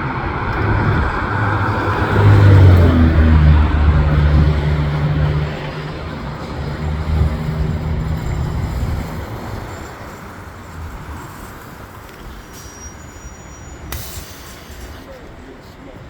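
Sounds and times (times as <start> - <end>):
bus diesel engine drone: 0.0 - 16.0.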